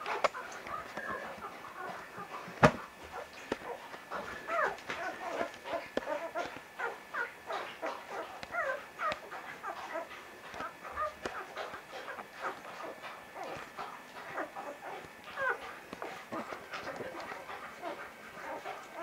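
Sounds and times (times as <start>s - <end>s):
puppies squeaking and whimpering: 0.1s - 19.0s.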